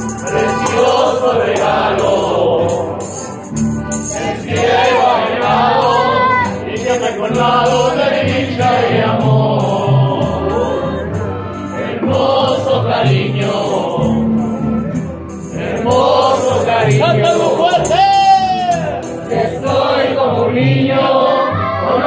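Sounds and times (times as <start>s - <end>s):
string band playing: 0.0s - 21.9s
many voices singing: 0.0s - 22.0s.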